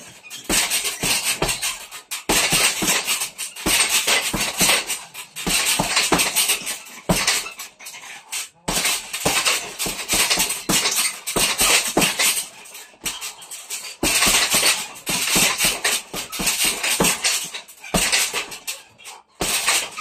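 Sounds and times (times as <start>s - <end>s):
gloves punching heavy bag: 0.0s - 20.0s.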